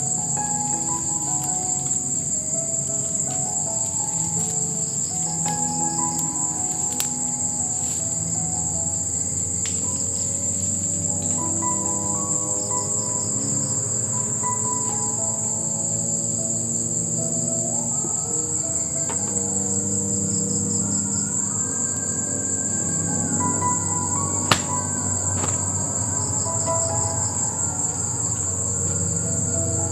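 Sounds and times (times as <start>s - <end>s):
insects chirping: 0.0s - 29.9s
soft music with held notes: 0.0s - 29.9s.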